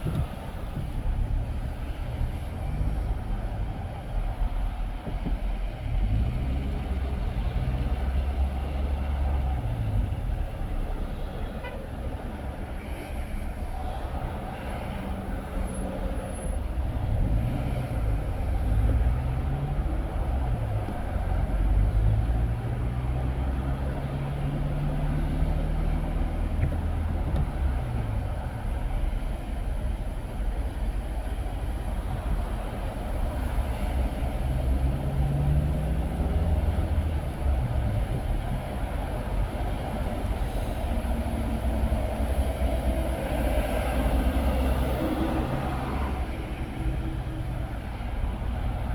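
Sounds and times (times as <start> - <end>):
car engine and tyre rumble: 0.0 - 48.9.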